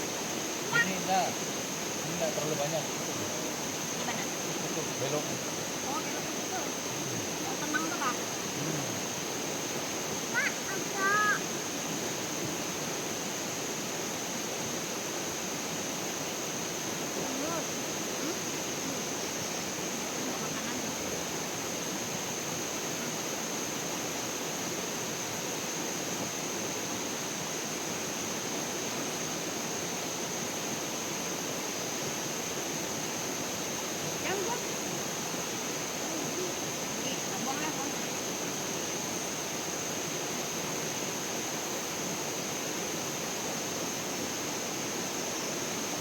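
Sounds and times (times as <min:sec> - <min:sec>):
flowing water rushing: 0:00.0 - 0:46.0.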